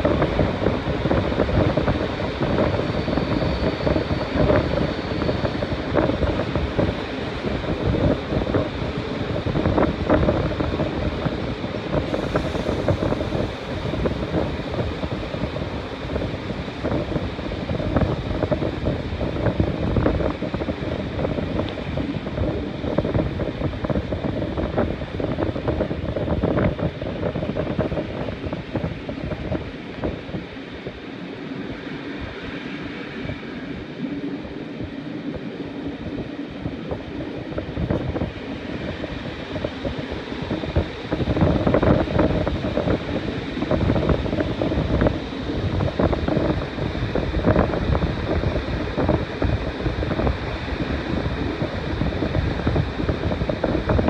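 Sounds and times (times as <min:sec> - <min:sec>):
train wheels rumbling and clattering: 0:00.0 - 0:54.0
wind buffeting microphone: 0:00.0 - 0:54.0.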